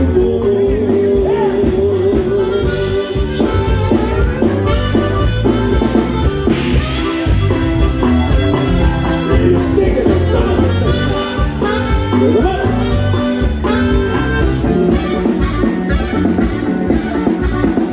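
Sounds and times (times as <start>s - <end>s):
bass and drums: 0.0s - 17.9s
saxophone melody: 1.2s - 17.9s.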